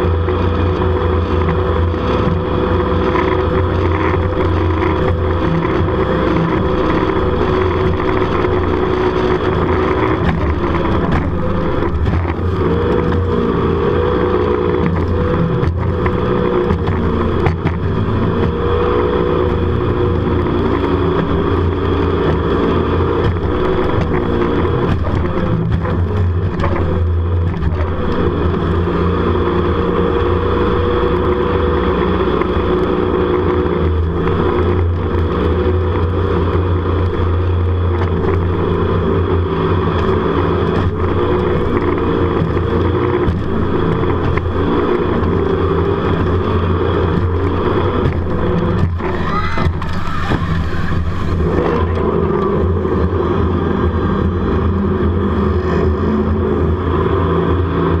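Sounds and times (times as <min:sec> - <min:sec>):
jet boat engine running hard: 0:00.0 - 0:58.0.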